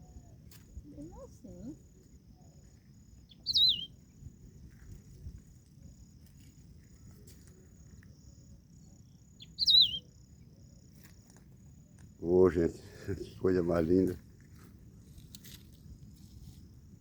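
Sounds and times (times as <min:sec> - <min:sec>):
songbird singing: 0:00.0 - 0:15.1
faint insect trill: 0:00.0 - 0:17.0.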